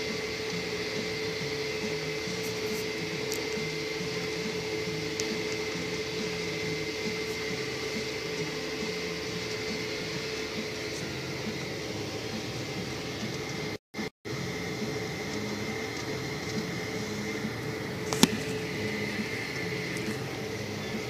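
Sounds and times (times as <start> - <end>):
steady whine: 0.0 - 21.0
tractor engine droning: 0.0 - 21.0.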